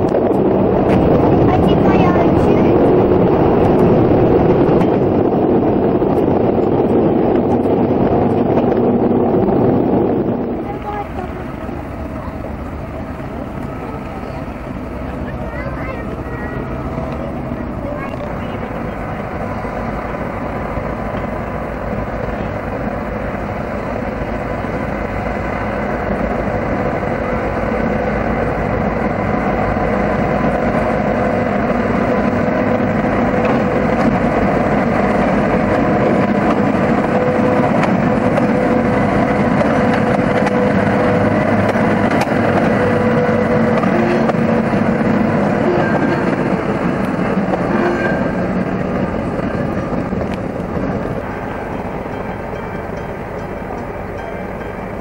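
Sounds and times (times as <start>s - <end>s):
locomotive diesel engine running: 0.0s - 55.0s.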